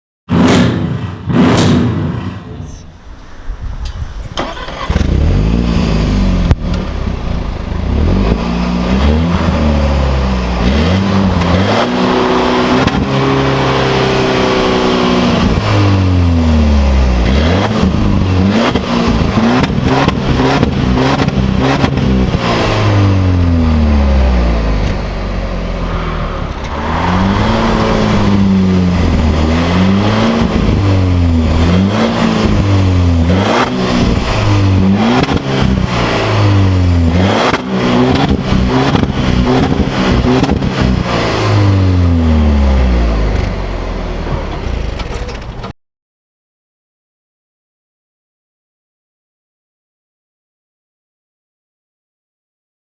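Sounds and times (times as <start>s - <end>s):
car engine revving: 0.3s - 45.7s.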